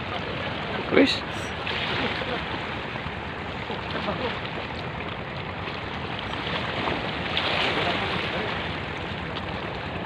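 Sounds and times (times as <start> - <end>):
steady wind: 0.0 - 10.0
waves washing against rocks: 0.0 - 10.0.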